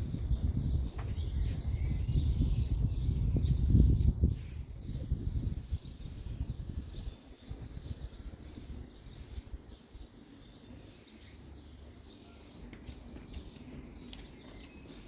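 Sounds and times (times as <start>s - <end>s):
bird chirping: 0.0s - 4.0s, 4.8s - 15.0s.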